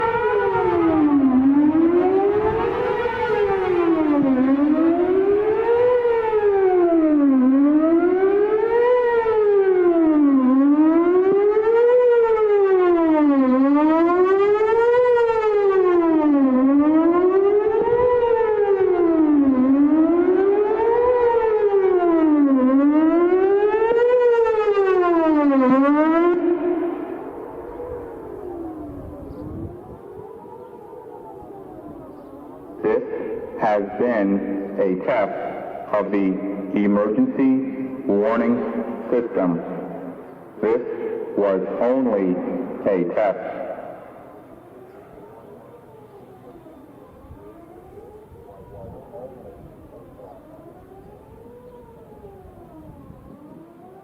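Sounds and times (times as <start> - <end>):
warning siren wailing: 0.0 - 54.0.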